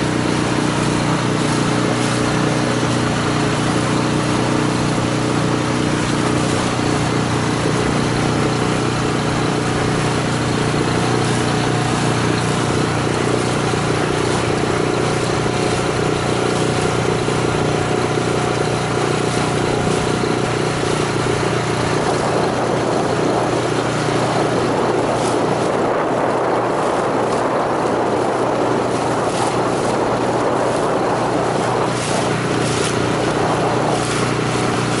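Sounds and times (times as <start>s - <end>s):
outboard motor running: 0.0s - 35.0s.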